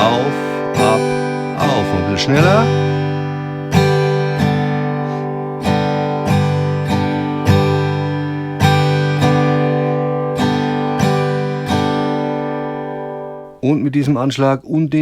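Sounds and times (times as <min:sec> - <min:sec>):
acoustic guitar strumming: 0:00.0 - 0:13.6.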